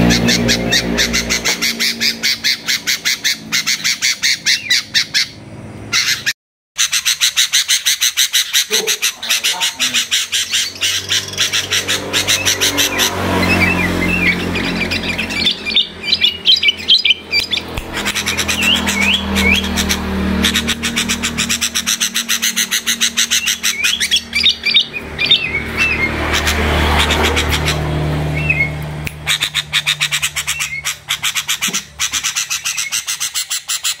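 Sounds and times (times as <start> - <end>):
songbird calling: 0.0 - 34.0.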